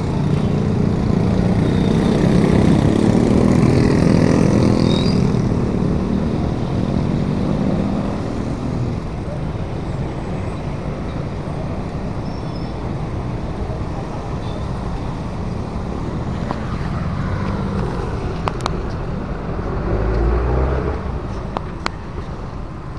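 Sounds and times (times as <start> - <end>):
tyres on road: 0.0 - 22.9.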